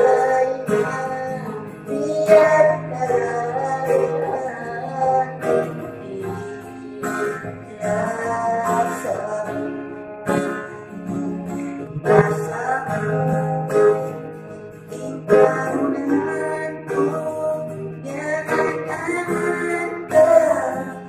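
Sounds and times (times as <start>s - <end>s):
man singing: 0.0s - 21.0s
strummed acoustic guitar: 0.0s - 21.0s.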